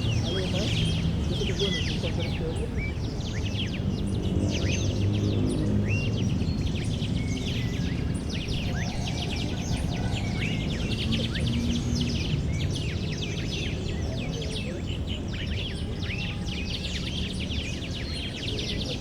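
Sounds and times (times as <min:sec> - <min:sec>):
distant city rumble: 0:00.0 - 0:19.0
small birds chirping: 0:00.0 - 0:19.0.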